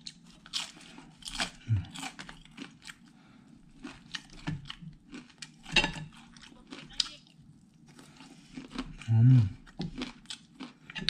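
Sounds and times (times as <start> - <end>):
crunching and chewing snack: 0.0 - 11.0.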